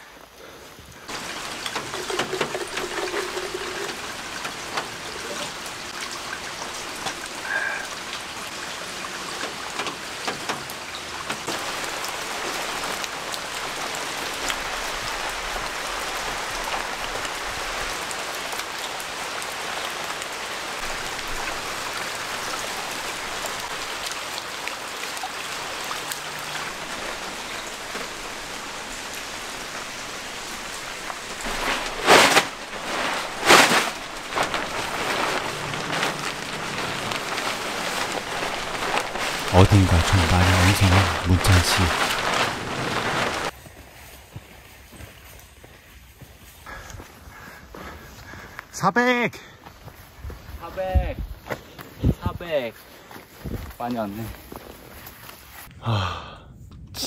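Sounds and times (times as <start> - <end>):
steady rain with ticking drops: 0.0 - 56.2.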